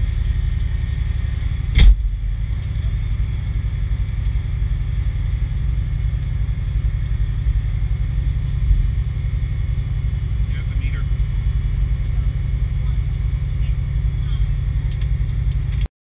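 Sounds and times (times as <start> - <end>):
diesel engine idling: 0.0 - 15.9.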